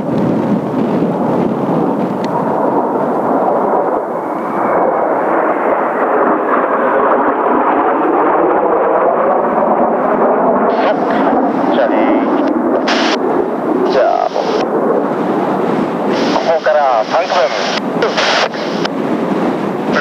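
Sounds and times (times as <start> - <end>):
faint jet whine: 0.0 - 20.0
jet aircraft flying overhead: 0.0 - 20.0.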